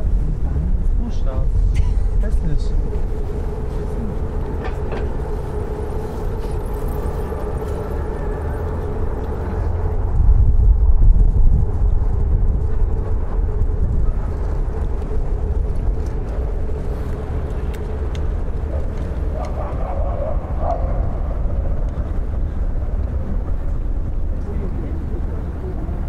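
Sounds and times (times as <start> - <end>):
faint steady hum: 0.0 - 26.0
indistinct voices: 0.0 - 26.0
vehicle traffic rumble: 0.0 - 26.0.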